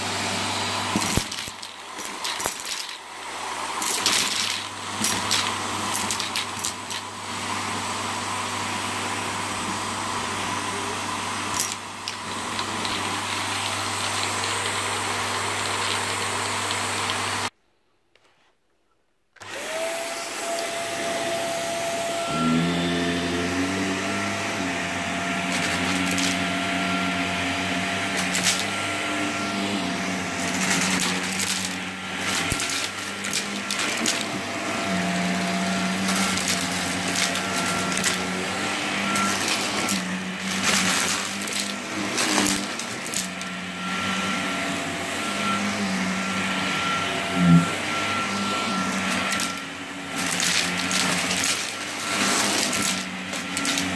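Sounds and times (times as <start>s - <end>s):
vacuum cleaner motor whine: 0.0s - 17.5s, 19.4s - 53.9s.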